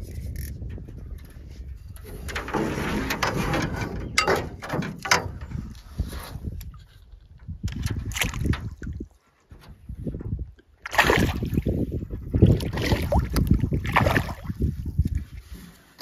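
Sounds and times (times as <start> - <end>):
water sloshing against hull: 0.0 - 16.0.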